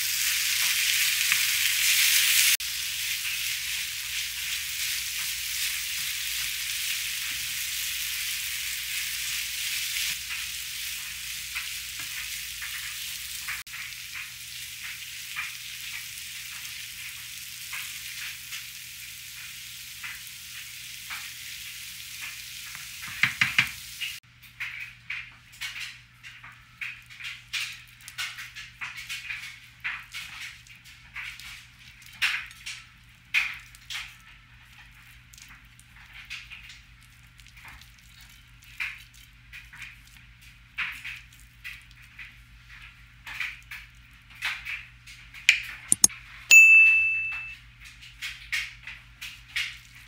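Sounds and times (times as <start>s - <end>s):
potatoes sizzling in oil: 0.0s - 45.3s.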